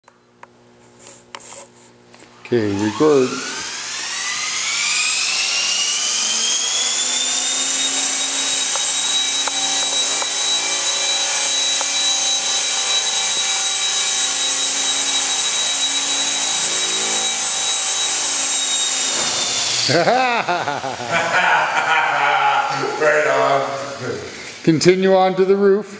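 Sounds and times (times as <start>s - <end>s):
rc helicopter motor and rotor whine: 2.5s - 24.6s.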